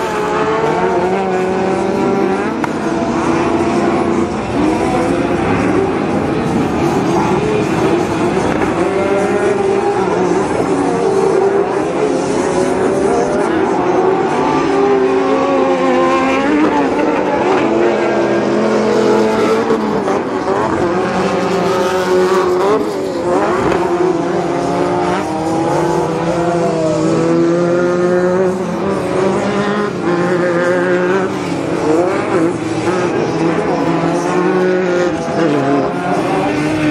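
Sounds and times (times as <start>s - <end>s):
off-road truck engines revving: 0.0s - 36.9s.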